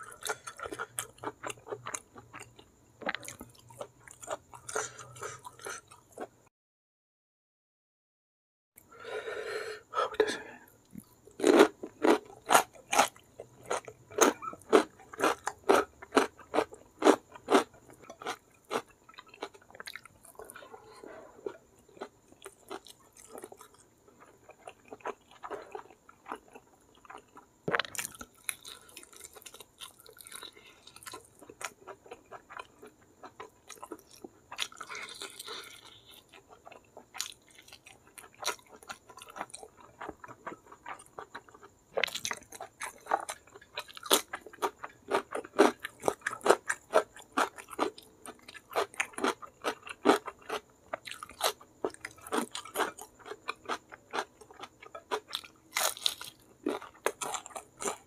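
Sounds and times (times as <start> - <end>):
person chewing with crunches: 0.0 - 6.4, 10.0 - 58.0.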